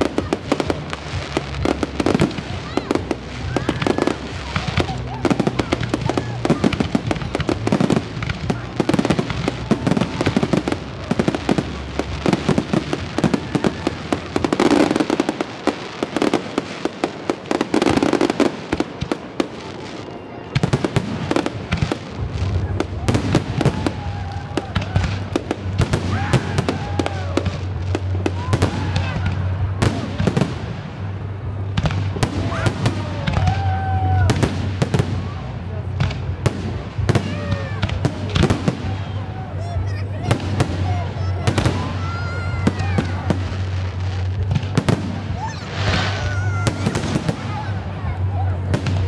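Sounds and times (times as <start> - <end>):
music: 0.0 - 19.1, 19.8 - 49.0
fireworks bangs and crackles: 0.0 - 49.0
voices: 0.0 - 49.0.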